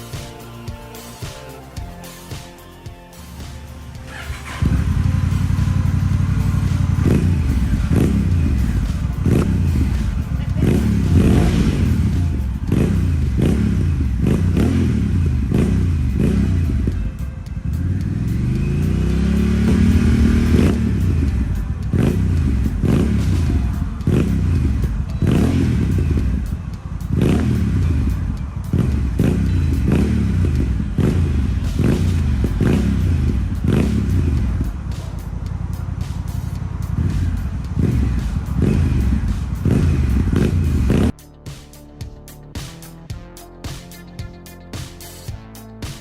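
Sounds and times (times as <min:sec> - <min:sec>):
motorcycle engine revving: 0:03.2 - 0:41.2.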